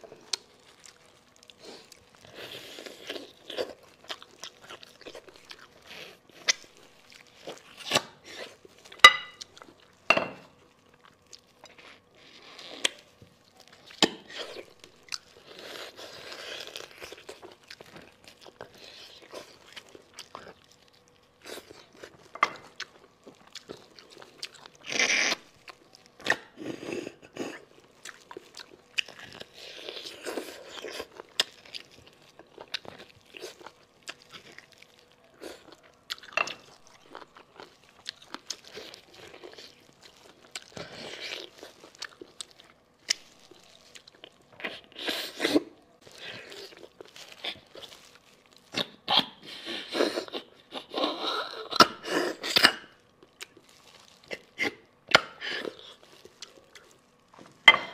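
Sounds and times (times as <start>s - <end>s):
chewing: 0.0s - 57.9s.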